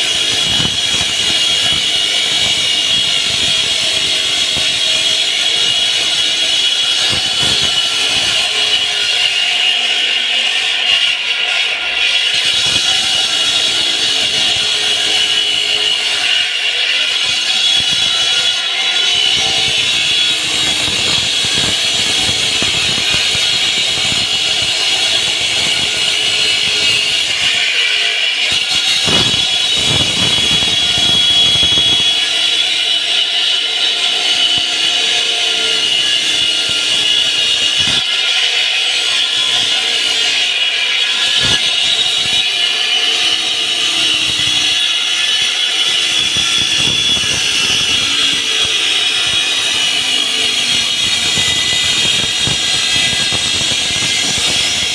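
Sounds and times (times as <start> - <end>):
concrete saw cutting: 0.0 - 54.9.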